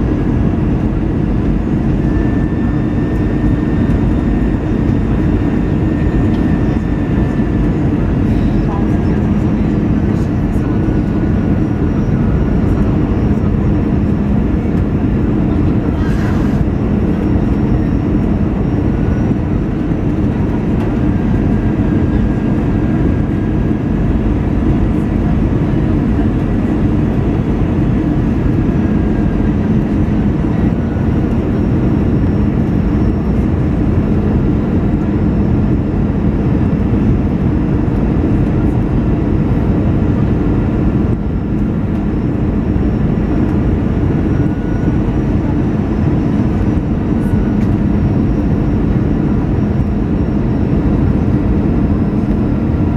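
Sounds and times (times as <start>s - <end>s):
jet engines and airflow rushing: 0.0s - 52.9s.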